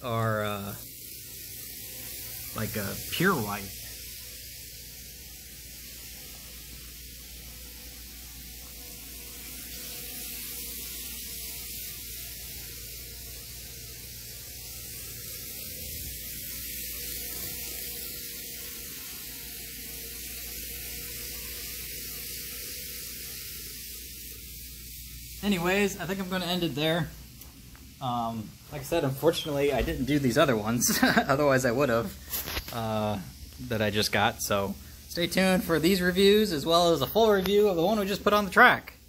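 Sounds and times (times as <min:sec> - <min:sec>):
model train motor whirring: 0:00.0 - 0:27.9, 0:31.8 - 0:39.0.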